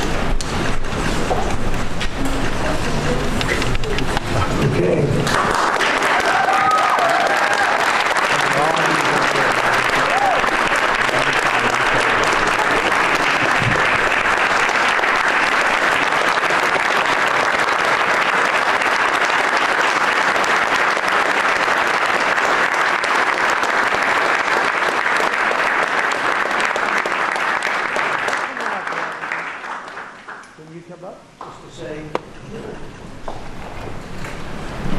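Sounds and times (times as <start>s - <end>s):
crowd applause: 0.0s - 30.6s.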